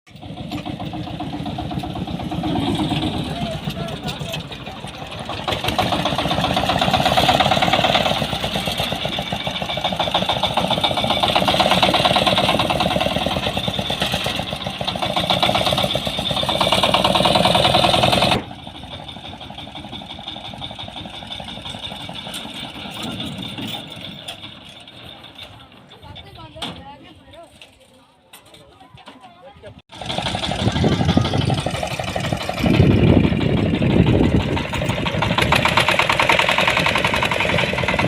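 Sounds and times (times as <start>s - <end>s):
tractor engine running: 0.1s - 38.0s.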